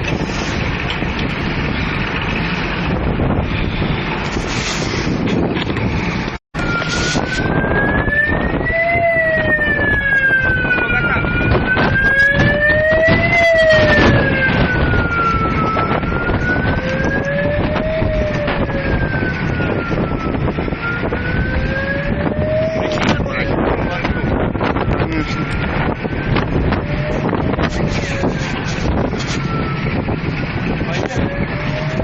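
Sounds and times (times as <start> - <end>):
wind buffeting microphone: 0.0 - 32.0
emergency siren wailing: 5.9 - 32.0.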